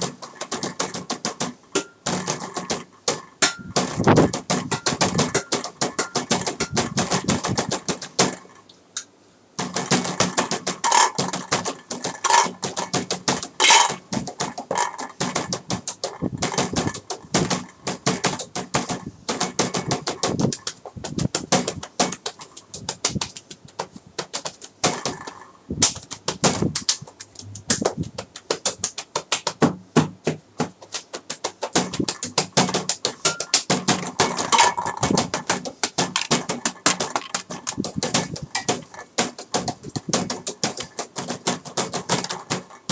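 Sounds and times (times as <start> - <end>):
tapping on household objects: 0.0 - 8.6, 9.6 - 42.9.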